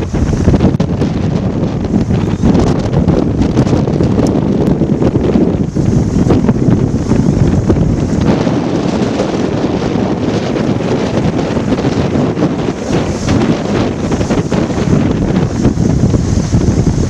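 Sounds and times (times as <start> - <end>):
gusty storm wind on microphone: 0.0 - 17.0.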